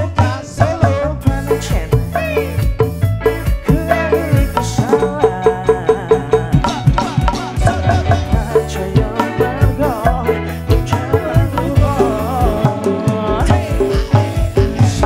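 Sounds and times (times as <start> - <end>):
bass guitar: 0.0 - 15.0
drum kit: 0.0 - 15.0
electric guitar: 0.0 - 15.0
hand drums: 0.0 - 15.0
man singing into a microphone: 0.0 - 15.0.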